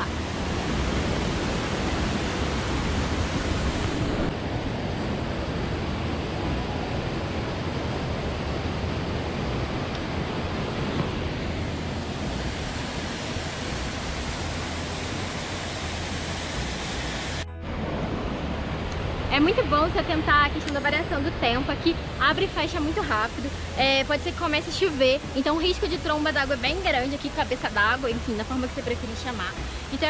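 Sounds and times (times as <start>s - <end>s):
small waterfall: 0.0s - 17.5s, 18.1s - 30.0s
mountain stream rushing: 0.0s - 30.0s.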